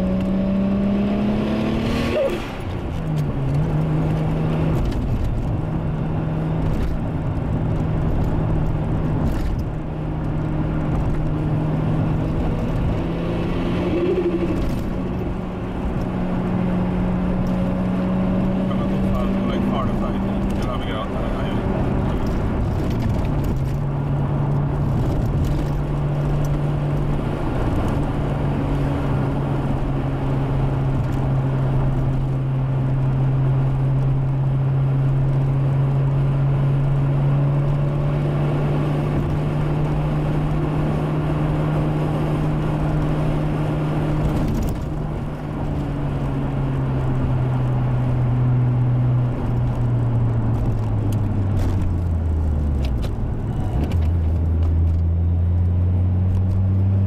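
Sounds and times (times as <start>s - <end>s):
car engine while driving: 0.0s - 57.0s.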